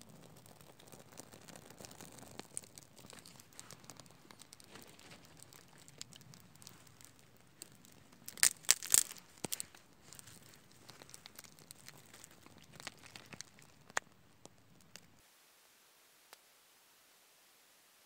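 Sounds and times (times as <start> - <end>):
birch bark crinkling and crackling: 0.0 - 15.2
loud sharp crinkling: 0.0 - 15.2.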